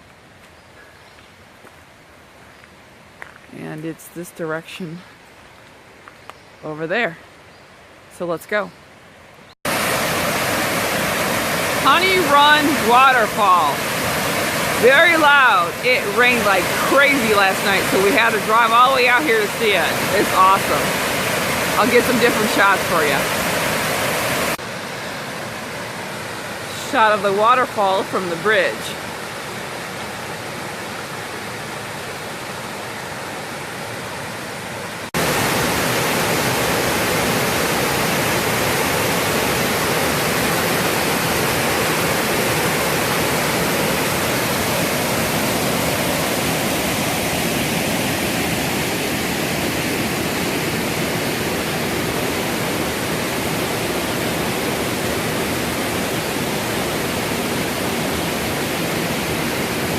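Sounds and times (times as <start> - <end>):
waterfall roaring: 9.7 - 59.9.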